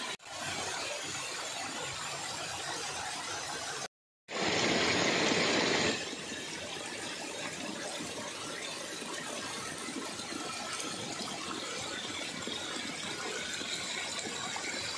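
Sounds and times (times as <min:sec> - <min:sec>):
small waterfall splashing: 0:00.0 - 0:14.9.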